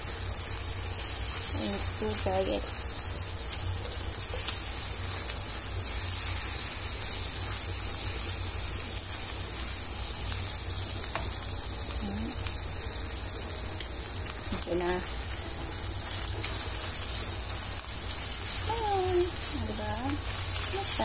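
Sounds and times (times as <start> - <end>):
eggs sizzling in a pan: 0.0 - 21.0.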